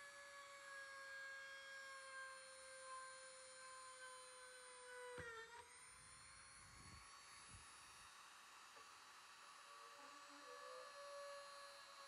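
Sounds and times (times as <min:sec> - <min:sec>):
electric drill whining: 0:00.0 - 0:12.0.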